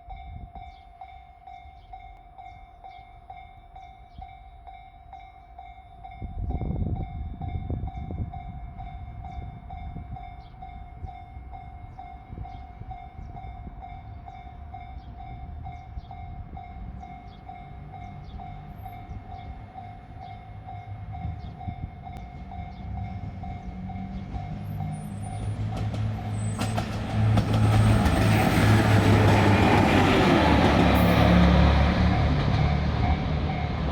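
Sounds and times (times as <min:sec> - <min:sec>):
train passing with low rumble: 0:00.0 - 0:33.9.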